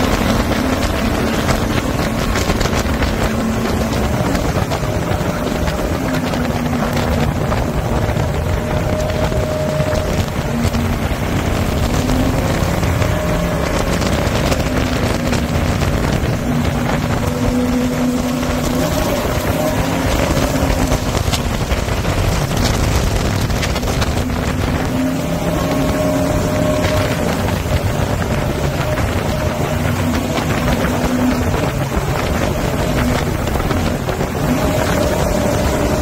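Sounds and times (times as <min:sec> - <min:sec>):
jet boat engine running hard: 0:00.0 - 0:36.0
wind buffeting microphone: 0:00.0 - 0:36.0.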